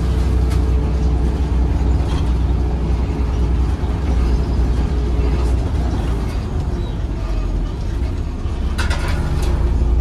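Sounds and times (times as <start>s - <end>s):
bus diesel engine drone: 0.0s - 10.0s.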